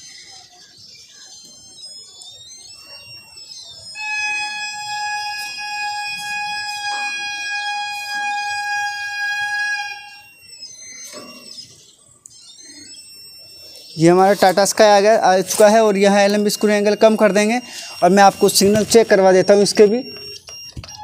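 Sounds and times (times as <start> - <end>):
faint wavering high tones: 0.0 - 21.0
loud steady beep tone: 0.0 - 21.0.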